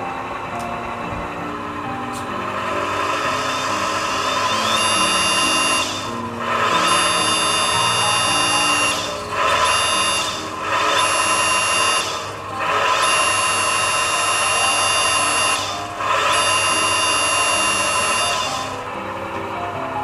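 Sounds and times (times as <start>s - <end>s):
electric hydraulic pump whining: 0.0s - 20.0s.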